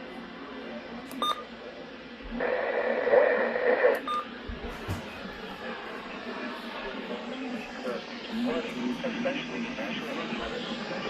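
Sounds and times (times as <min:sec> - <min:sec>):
loud radio hiss: 0:00.0 - 0:11.0.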